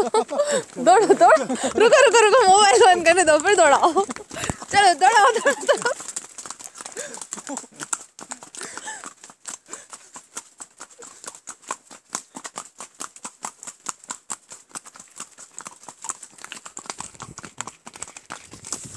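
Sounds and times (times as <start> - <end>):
horse hooves clopping: 0.0 - 18.9.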